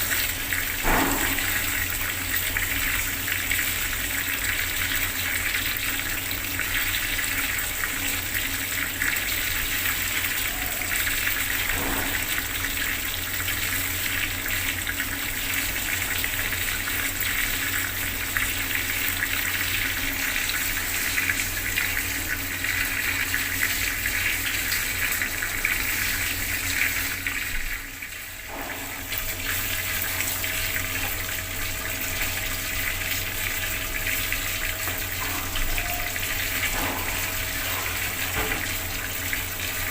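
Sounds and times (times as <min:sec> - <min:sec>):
water tap running: 0:00.0 - 0:39.9.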